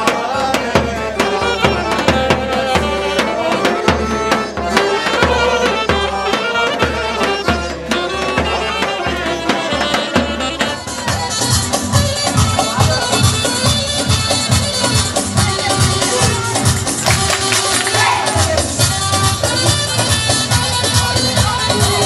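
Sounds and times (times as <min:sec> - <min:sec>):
folk band playing dance tune: 0:00.0 - 0:22.0
large drum beating steady pulse: 0:00.0 - 0:22.0.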